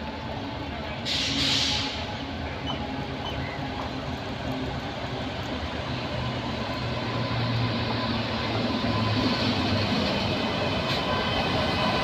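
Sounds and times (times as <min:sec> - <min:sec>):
electric locomotive drone: 0:00.0 - 0:12.0
wheels rumbling on rail: 0:00.0 - 0:12.0.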